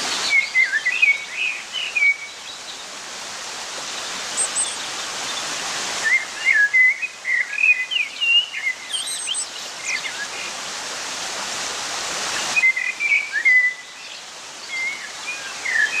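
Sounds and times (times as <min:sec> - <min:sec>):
running water: 0:00.0 - 0:16.0
small birds chirping and whistling: 0:00.1 - 0:02.8, 0:03.9 - 0:10.5, 0:12.4 - 0:16.0.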